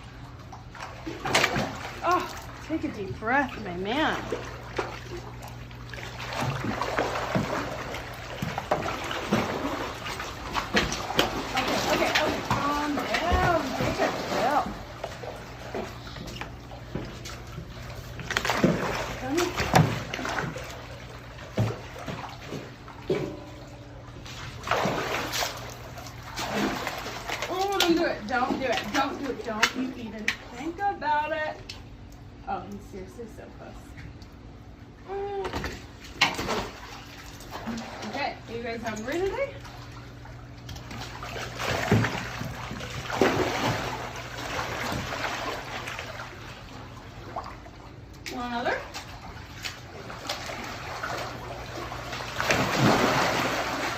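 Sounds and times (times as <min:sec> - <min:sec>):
steady low hum: 0:00.0 - 0:53.9
water splashing and sloshing: 0:00.0 - 0:53.9.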